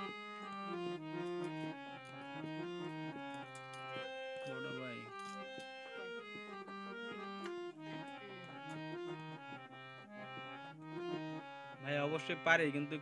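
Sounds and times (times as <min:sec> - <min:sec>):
keyboard melody of held notes: 0:00.0 - 0:13.0.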